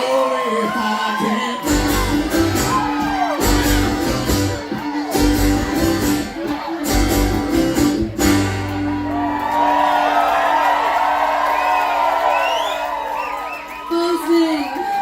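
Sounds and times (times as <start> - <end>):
audience whooping: 0.0 - 15.0
live band with strummed guitar: 0.0 - 15.0.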